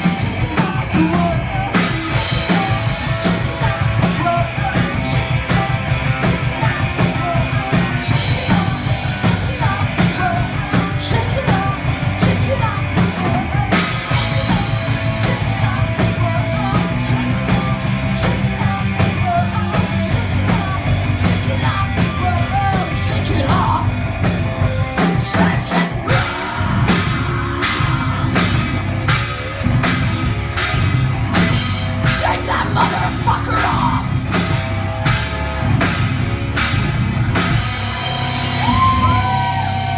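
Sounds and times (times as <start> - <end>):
heavy metal band playing: 0.0 - 39.9.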